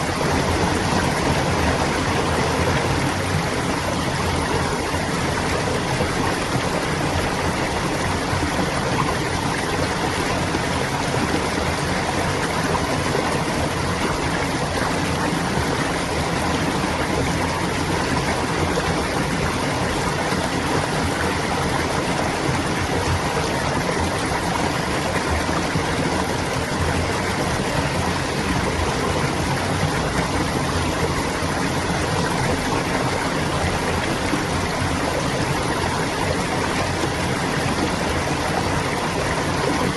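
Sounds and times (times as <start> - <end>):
water babbling over rocks: 0.0 - 39.9.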